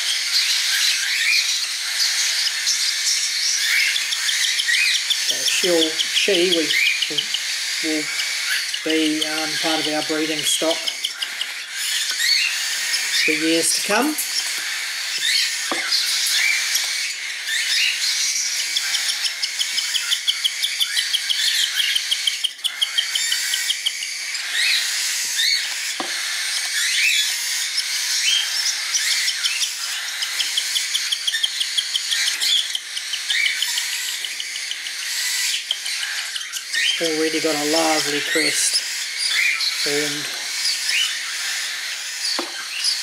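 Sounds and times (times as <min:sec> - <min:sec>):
bird chick begging chirps: 0:00.0 - 0:43.0.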